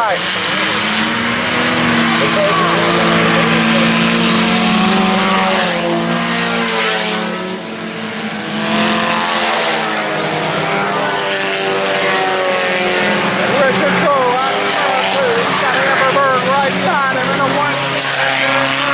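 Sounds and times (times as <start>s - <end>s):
race car engines at high revs: 0.0s - 18.9s.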